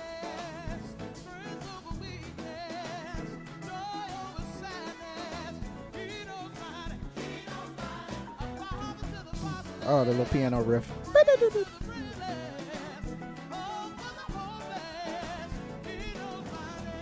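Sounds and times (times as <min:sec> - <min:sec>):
gospel band playing: 0:00.0 - 0:17.0
person singing lead vocals: 0:00.0 - 0:17.0.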